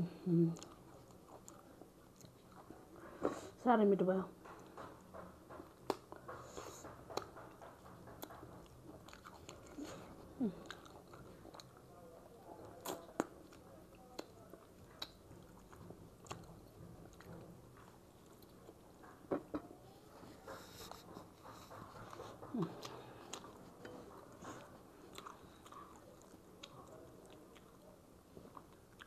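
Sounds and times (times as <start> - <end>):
person chewing: 0.5 - 3.5, 4.5 - 12.0, 12.6 - 19.6, 20.4 - 29.0.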